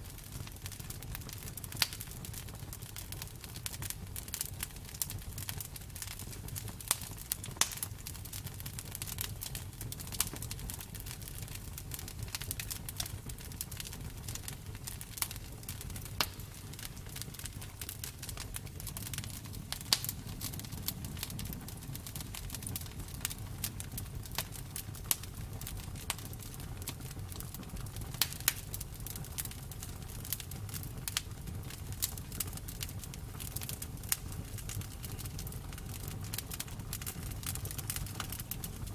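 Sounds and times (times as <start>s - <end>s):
low rumble of burning: 0.0s - 38.9s
bonfire pops and snaps: 0.1s - 38.9s.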